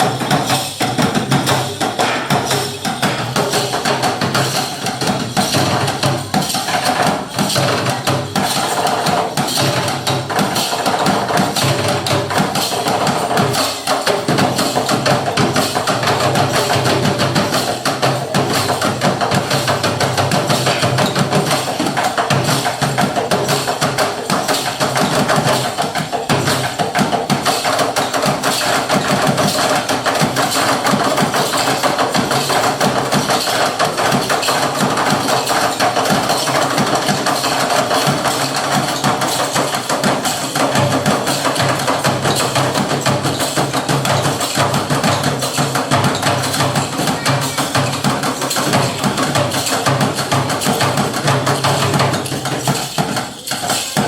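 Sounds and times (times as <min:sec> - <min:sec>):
fast percussion strokes: 0:00.0 - 0:54.0.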